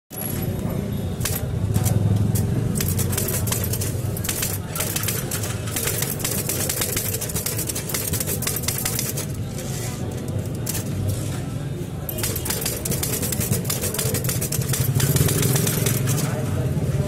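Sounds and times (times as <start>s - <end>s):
typewriter keys clattering: 1.2s - 11.2s, 12.1s - 16.4s
typewriter carriage return: 1.2s - 11.3s, 12.1s - 16.4s.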